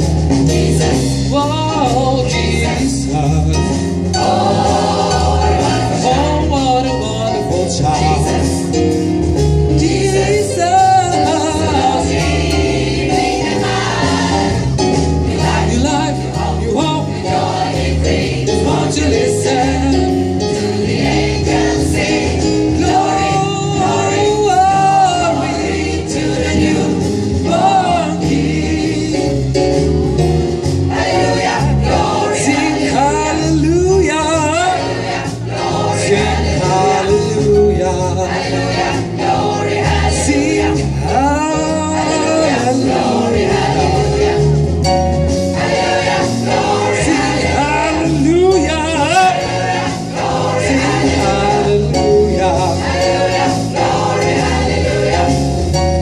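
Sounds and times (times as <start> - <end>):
gospel choir singing: 0.0 - 56.0
instrumental accompaniment: 0.0 - 56.0.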